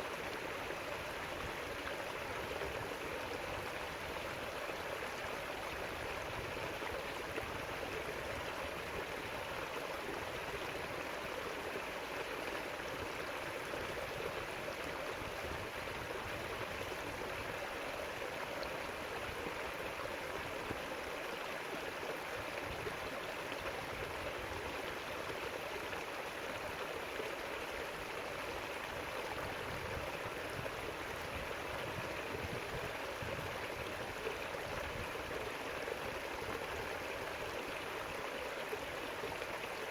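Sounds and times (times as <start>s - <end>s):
river water rushing and burbling: 0.0s - 39.9s.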